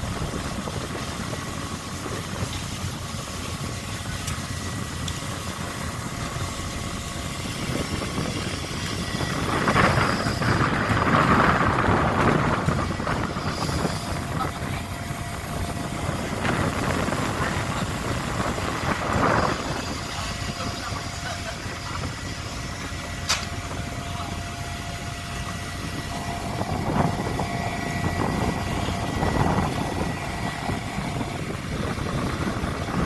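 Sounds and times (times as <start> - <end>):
boat engine drone: 0.0 - 33.0.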